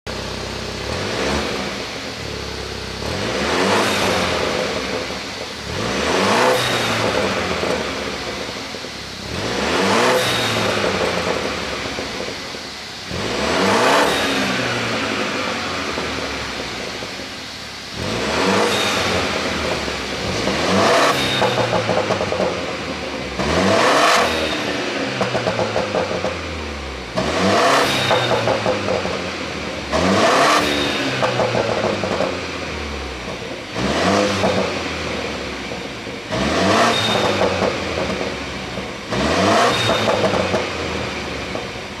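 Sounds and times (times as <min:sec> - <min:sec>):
car engine revving: 0:00.0 - 0:42.0
exhaust pops and crackles: 0:00.1 - 0:42.0.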